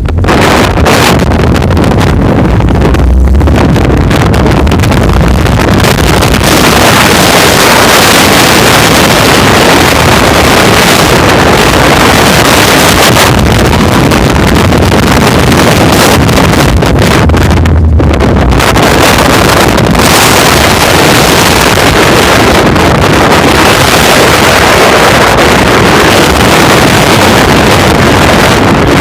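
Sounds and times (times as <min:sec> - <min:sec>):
low rumble: 0:00.0 - 0:29.0
wind buffeting microphone: 0:00.0 - 0:29.0.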